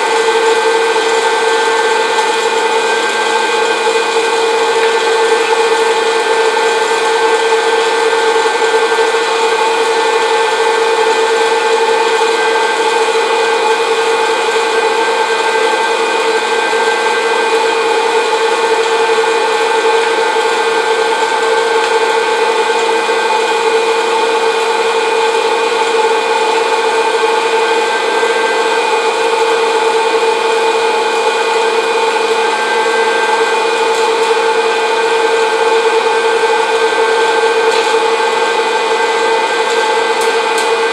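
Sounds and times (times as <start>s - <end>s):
popcorn popper fan whirring: 0.0s - 40.9s.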